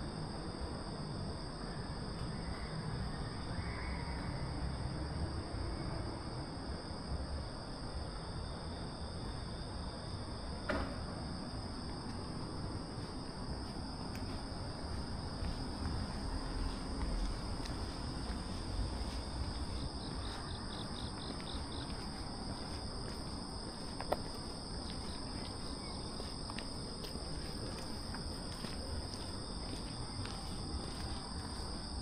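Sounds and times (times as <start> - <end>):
crickets trilling: 0.0 - 32.0
rapid insect chirps: 0.1 - 32.0.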